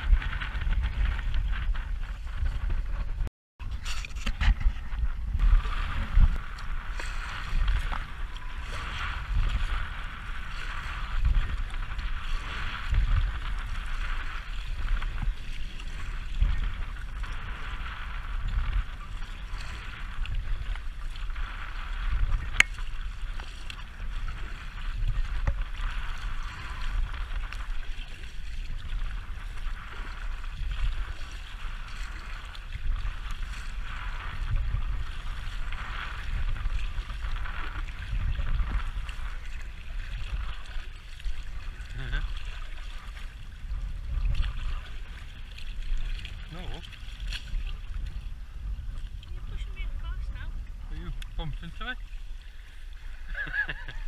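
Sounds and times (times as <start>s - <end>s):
paddle splashing water: 0.0s - 54.0s
wind buffeting microphone: 0.0s - 54.0s.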